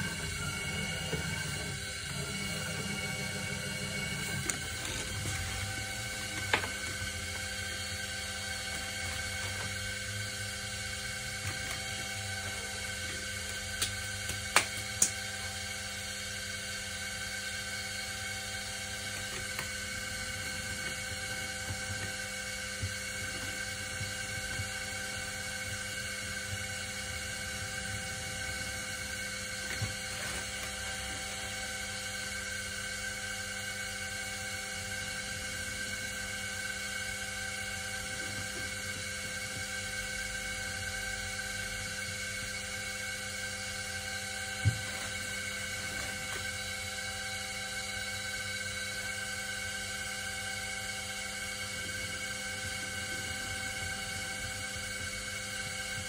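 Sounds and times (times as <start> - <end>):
potter's wheel motor whine: 0.0 - 56.0.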